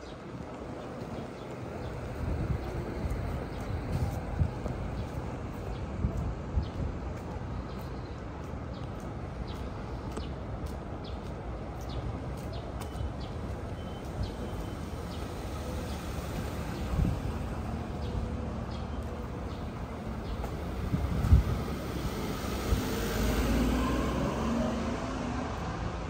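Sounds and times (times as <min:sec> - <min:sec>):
distant city traffic hum: 0:00.0 - 0:26.0.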